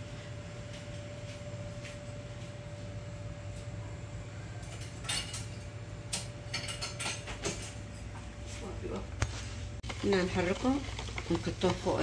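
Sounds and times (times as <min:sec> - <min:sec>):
low kitchen room hum: 0:00.0 - 0:12.0.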